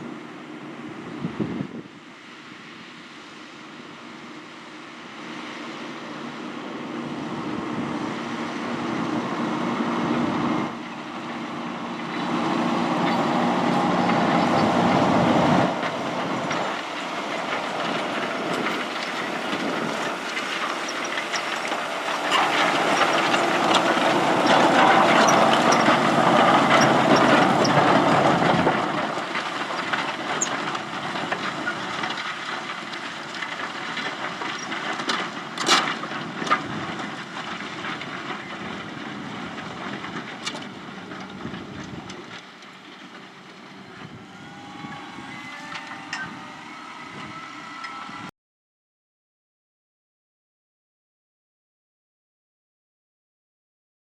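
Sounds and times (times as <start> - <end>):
tractor pulling a plough: 0.0 - 48.3.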